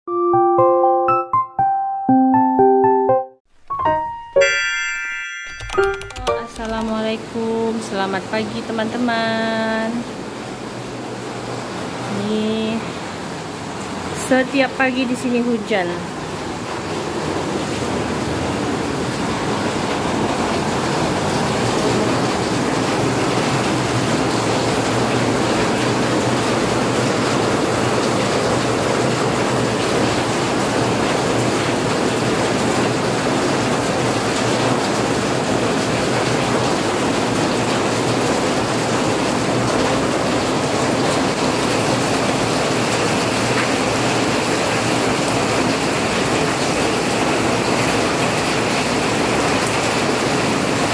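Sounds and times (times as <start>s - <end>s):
rain falling steadily: 6.5s - 50.9s.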